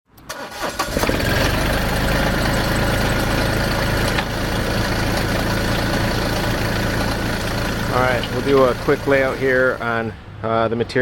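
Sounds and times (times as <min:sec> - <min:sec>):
diesel tractor engine idling: 0:00.3 - 0:10.4.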